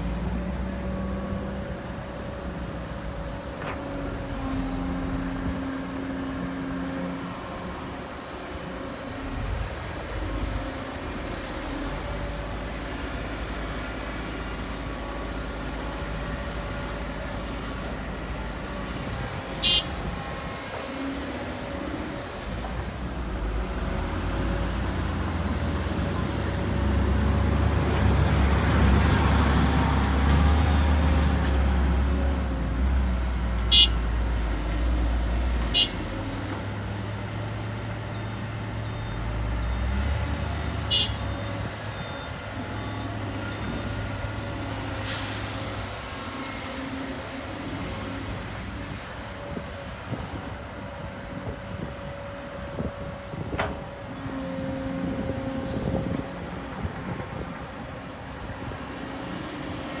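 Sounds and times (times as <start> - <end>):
diesel machinery engine drone: 0.0 - 60.0.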